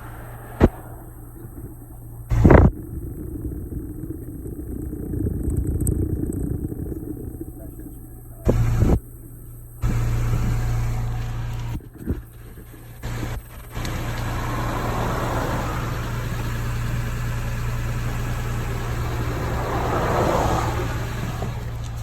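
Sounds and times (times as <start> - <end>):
engine idling hum: 0.0 - 22.0.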